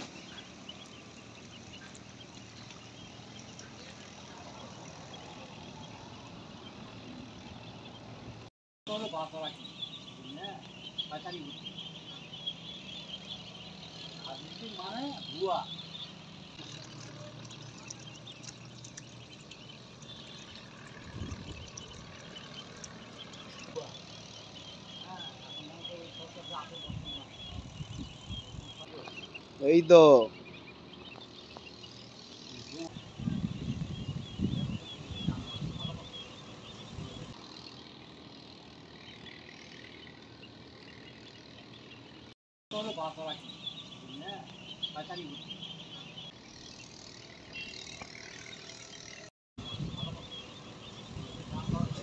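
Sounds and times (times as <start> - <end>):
ducklings peeping: 0.0 - 37.4, 39.1 - 46.6, 49.6 - 52.0.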